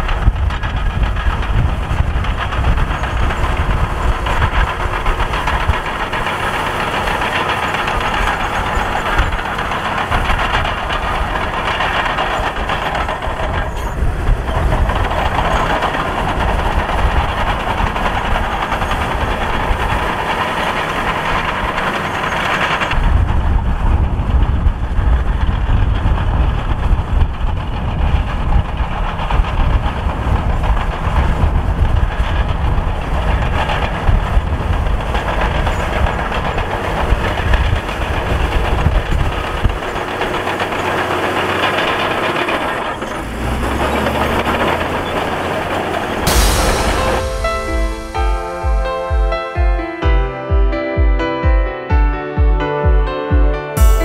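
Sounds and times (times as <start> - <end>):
bulldozer diesel engine: 0.0 - 48.1
steel tracks clanking: 0.0 - 50.1, 53.8 - 54.0.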